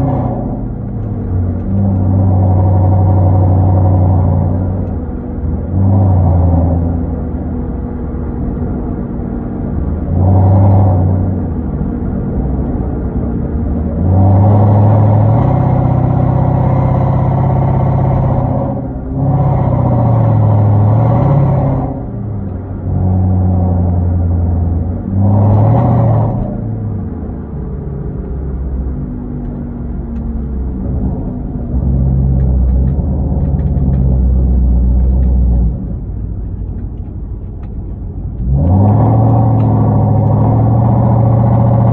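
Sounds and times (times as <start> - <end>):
car engine revving while driving: 0.0 - 41.9.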